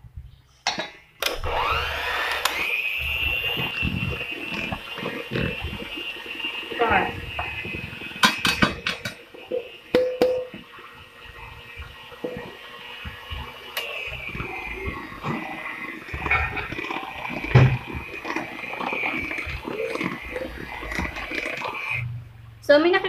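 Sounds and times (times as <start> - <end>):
electric mixer whine: 1.2 - 22.4.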